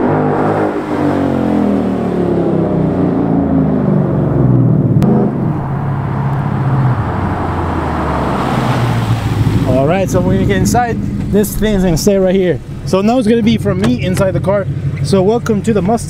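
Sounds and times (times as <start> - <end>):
car engine passing and pulling away: 0.0 - 16.0.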